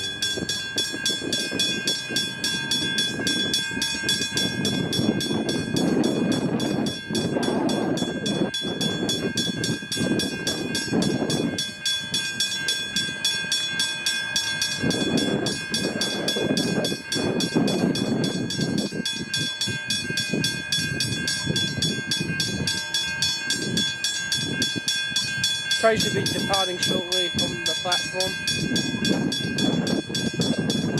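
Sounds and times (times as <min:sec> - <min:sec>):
level crossing bell ringing: 0:00.0 - 0:30.9
train rumbling: 0:00.0 - 0:30.9.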